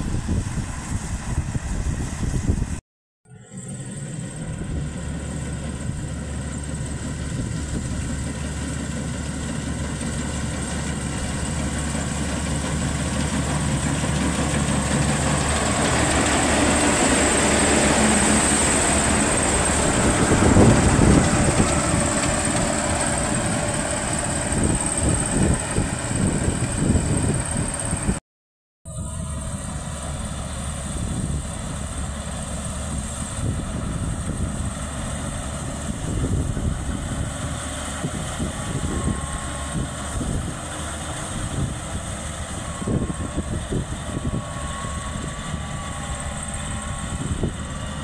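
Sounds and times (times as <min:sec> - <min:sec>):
combine harvester running: 0:00.0 - 0:28.2, 0:28.9 - 0:48.0.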